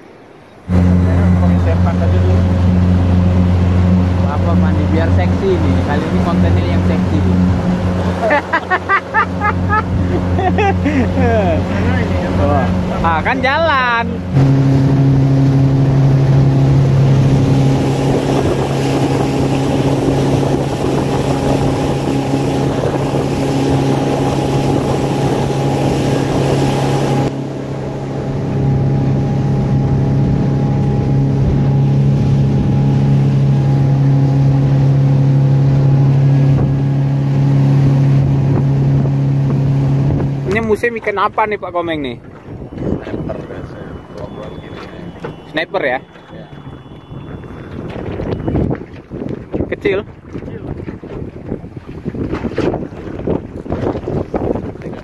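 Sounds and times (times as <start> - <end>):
wind and water rushing: 0.0 - 55.0
motorboat engine running: 0.6 - 55.0.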